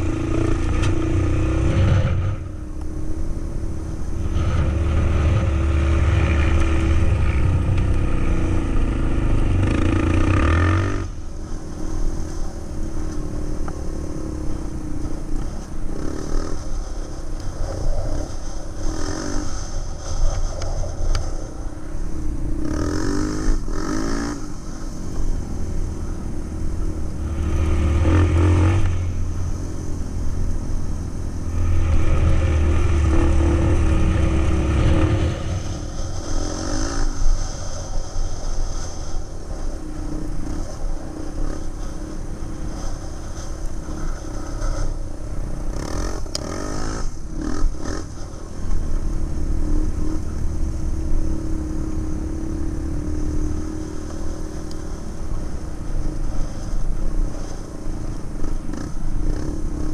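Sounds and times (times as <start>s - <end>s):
atv engine under throttle: 0.0s - 21.6s, 22.2s - 59.9s.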